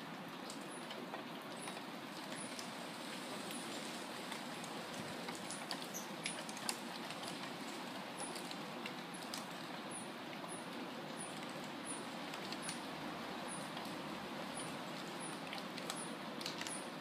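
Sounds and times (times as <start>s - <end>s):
leaves rustling in the wind: 0.0s - 17.0s.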